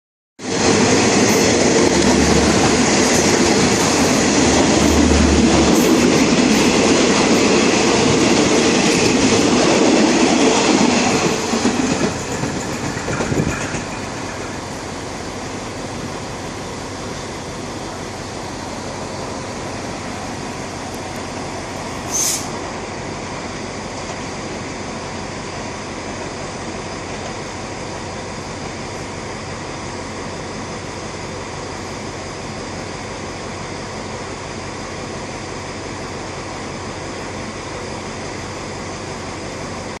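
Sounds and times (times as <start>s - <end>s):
train rushing rail noise: 0.4s - 40.0s.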